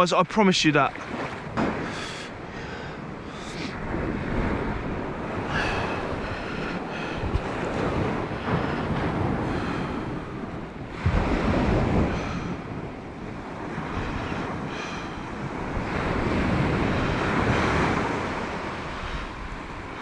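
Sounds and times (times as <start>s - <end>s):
sea surf washing onto beach: 0.0s - 20.0s
wind buffeting microphone: 0.9s - 20.0s.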